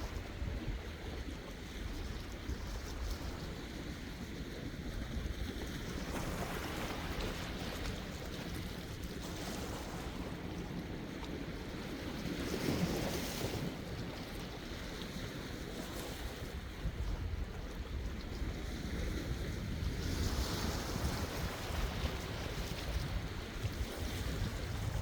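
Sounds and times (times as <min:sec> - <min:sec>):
wind rumbling on microphone: 0:00.0 - 0:25.0
sea waves washing in: 0:03.2 - 0:25.0.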